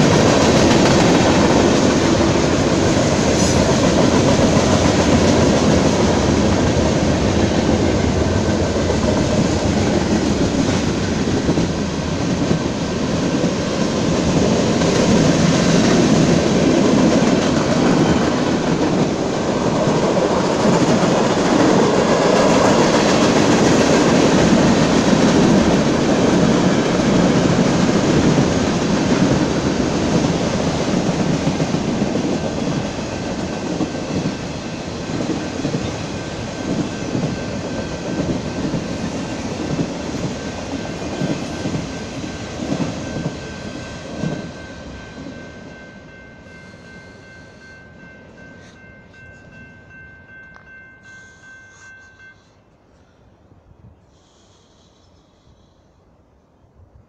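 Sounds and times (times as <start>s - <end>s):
freight train wheels on rails: 0.0s - 52.9s.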